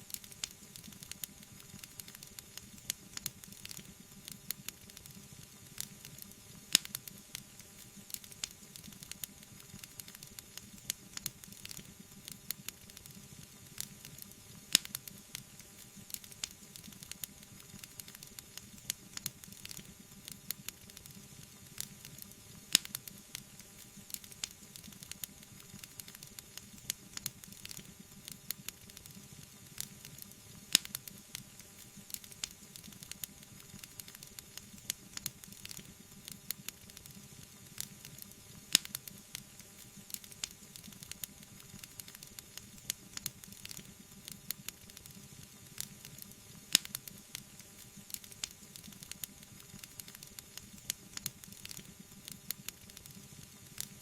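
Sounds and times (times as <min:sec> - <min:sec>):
soft hiss of fire: 0:00.0 - 0:54.0
wood fire crackling and popping: 0:00.0 - 0:54.0.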